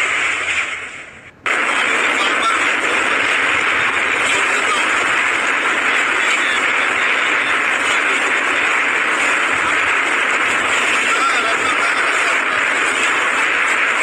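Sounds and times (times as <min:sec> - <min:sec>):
driving rain: 0:01.5 - 0:14.0.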